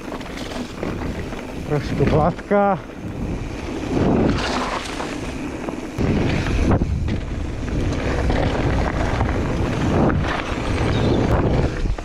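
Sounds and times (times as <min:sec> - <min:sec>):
bike tyres crackling over dirt: 0:00.0 - 0:12.0
wind buffeting microphone: 0:00.6 - 0:12.0.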